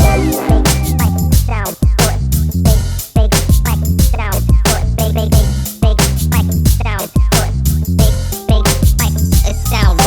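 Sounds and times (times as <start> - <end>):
hip hop music: 0.0 - 10.0.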